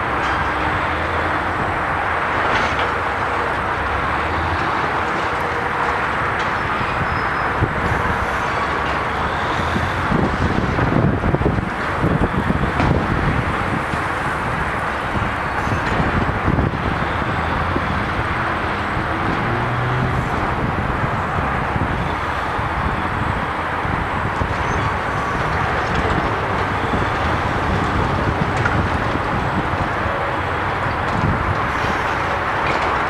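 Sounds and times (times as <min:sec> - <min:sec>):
traffic rumble: 0:00.0 - 0:33.0
wind: 0:00.0 - 0:33.0.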